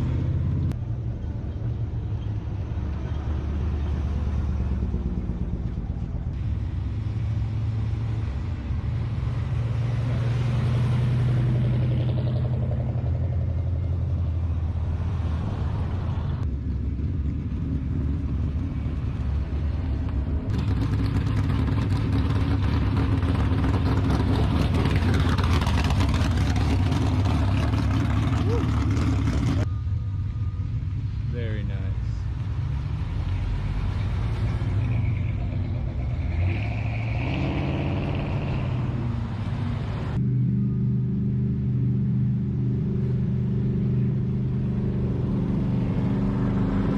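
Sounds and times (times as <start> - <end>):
car engines driving off: 0.0 - 46.9.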